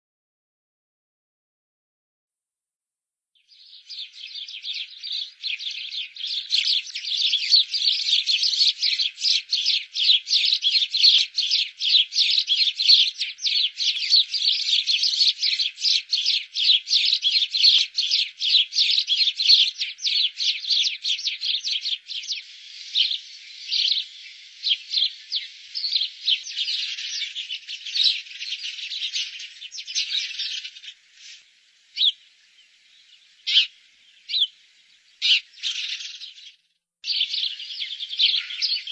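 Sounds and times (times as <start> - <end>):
small birds chirping: 3.4 - 38.9.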